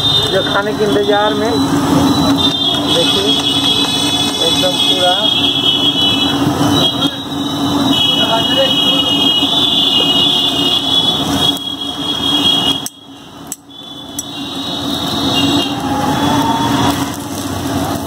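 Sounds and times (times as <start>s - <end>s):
high-pitched whine: 0.0s - 9.7s, 10.5s - 18.0s
cooking on iron griddle: 0.0s - 18.0s.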